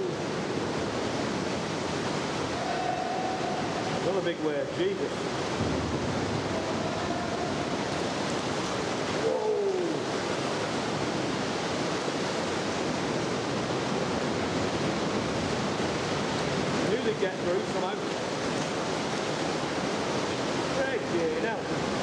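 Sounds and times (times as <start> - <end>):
ocean water rushing through cave: 0.0 - 22.0.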